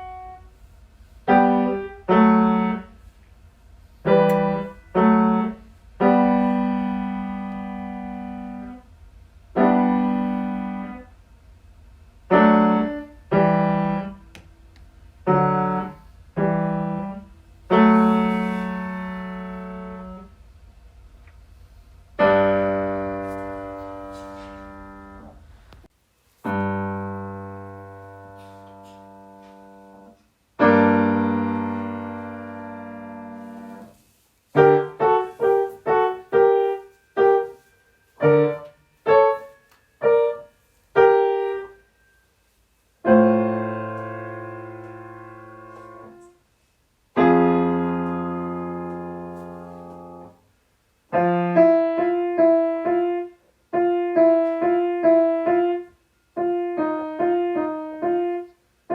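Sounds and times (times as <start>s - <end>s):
piano chords: 0.0s - 42.3s, 43.0s - 46.4s, 47.1s - 50.4s, 51.1s - 58.9s.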